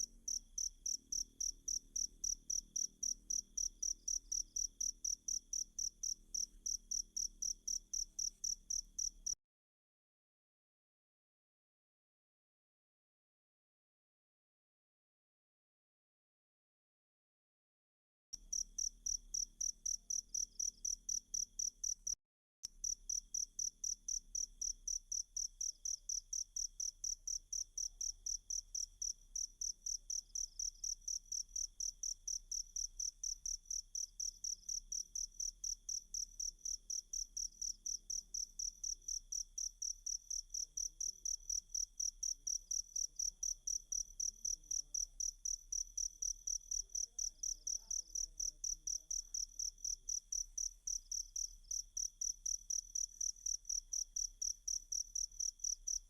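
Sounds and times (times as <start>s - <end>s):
cricket chirping: 0.0s - 9.4s, 18.4s - 22.2s, 22.8s - 56.0s.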